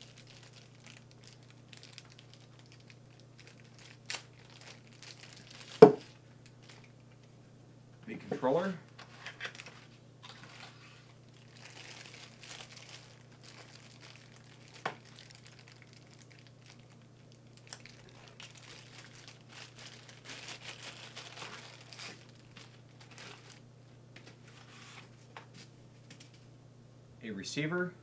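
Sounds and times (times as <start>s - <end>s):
plastic bag crinkling: 0.0s - 7.0s, 8.9s - 25.2s
faint steady hum: 0.0s - 28.0s.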